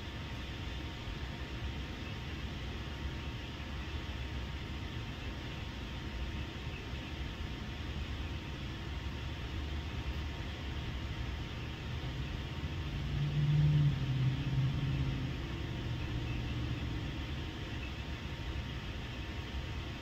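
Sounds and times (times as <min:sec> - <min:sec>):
low droning hum: 0:00.0 - 0:20.0
low rumble and hiss: 0:00.0 - 0:20.0.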